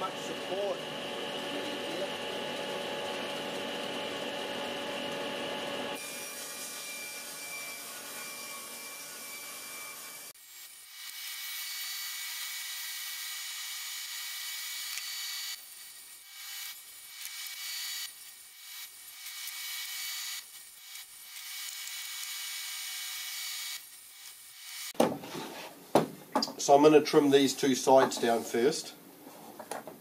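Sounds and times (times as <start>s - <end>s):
table saw cutting board: 0.0s - 25.7s.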